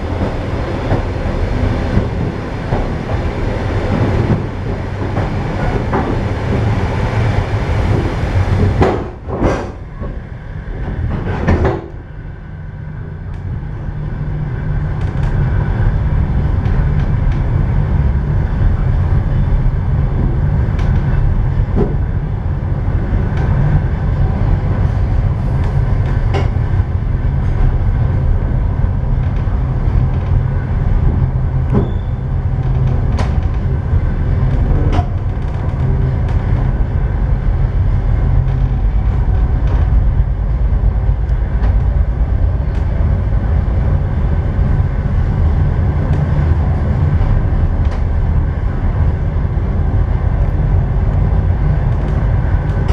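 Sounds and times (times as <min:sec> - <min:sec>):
train rumbling on rails: 0:00.0 - 0:52.9.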